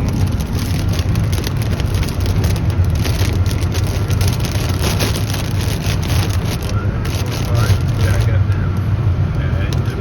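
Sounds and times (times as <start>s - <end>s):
raindrops ticking on car roof: 0.0s - 8.9s
road and engine rumble: 0.0s - 10.0s.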